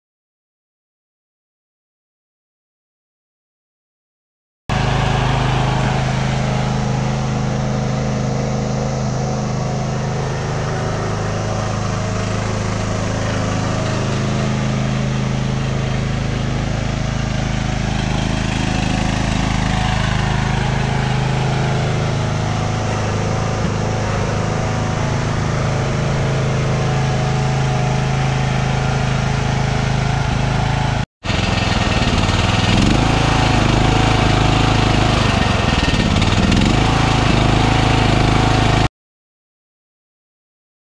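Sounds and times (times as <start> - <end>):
riding lawn mower engine: 4.7 - 38.9.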